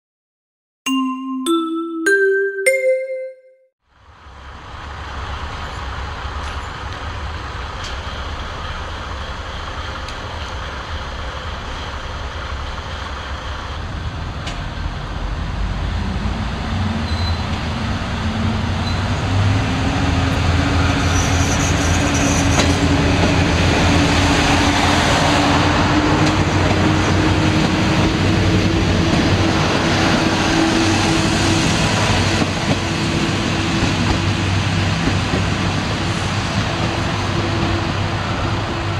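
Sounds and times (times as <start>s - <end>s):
diesel railcar engines: 4.0s - 38.9s.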